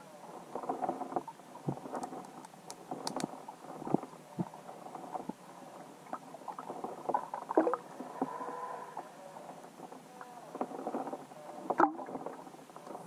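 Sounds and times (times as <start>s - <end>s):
muffled watery hiss: 0.0s - 13.0s
soft underwater clicks and knocks: 0.4s - 13.0s.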